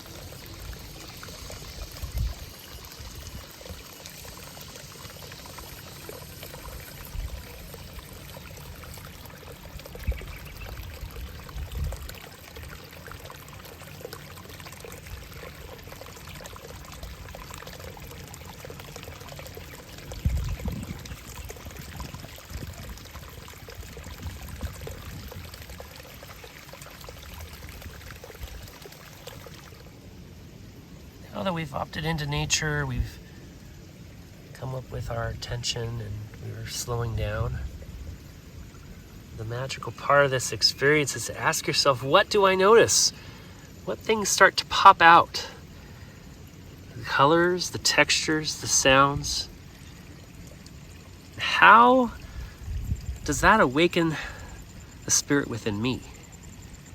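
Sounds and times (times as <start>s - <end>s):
rush of running water: 0.0s - 56.9s.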